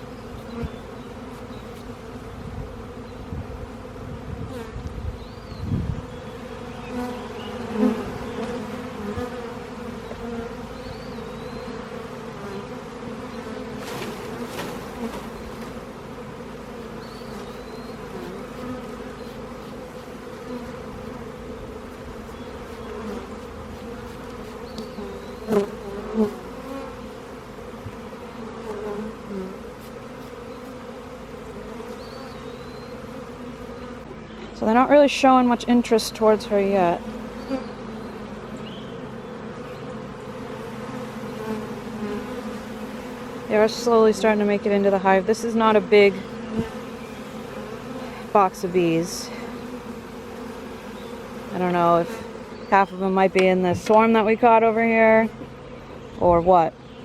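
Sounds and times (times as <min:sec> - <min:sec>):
honey bees buzzing: 0:00.0 - 0:57.0
loud wavering bee buzzes: 0:00.0 - 0:57.0.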